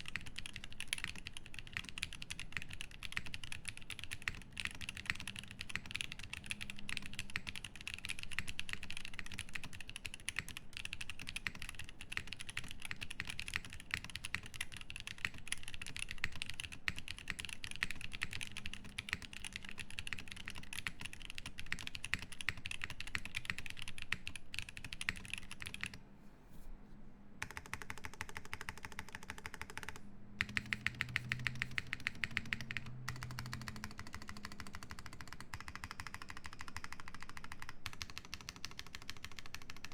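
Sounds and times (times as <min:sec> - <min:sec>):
mechanical keyboard typing clicks: 0:00.0 - 0:26.0, 0:27.4 - 0:39.9.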